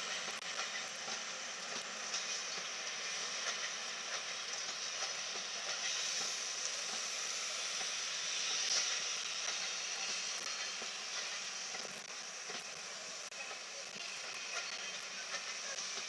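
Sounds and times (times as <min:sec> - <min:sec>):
steam hissing: 0:00.0 - 0:16.0
wheels clicking on track: 0:00.0 - 0:16.0.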